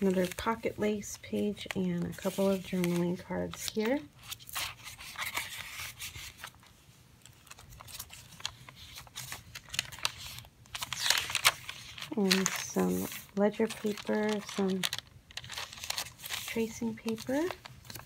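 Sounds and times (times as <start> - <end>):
paper pages rustling: 0.0 - 18.0.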